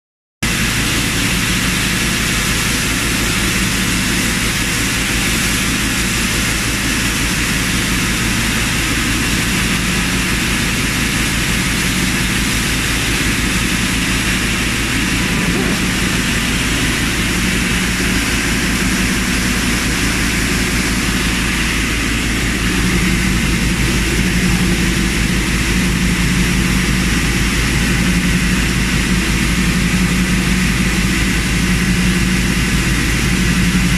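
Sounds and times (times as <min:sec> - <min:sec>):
machine whirring with low hum: 0:00.4 - 0:33.9.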